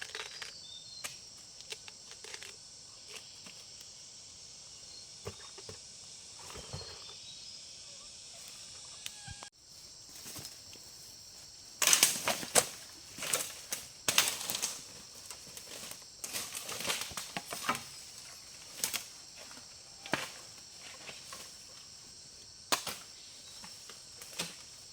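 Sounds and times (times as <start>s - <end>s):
high insect buzz: 0.0s - 24.9s.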